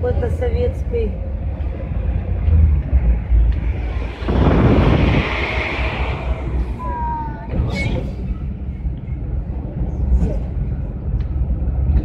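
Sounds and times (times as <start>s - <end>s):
rushing wind and traffic: 0.0s - 12.0s
van engine and road rumble: 0.0s - 12.0s.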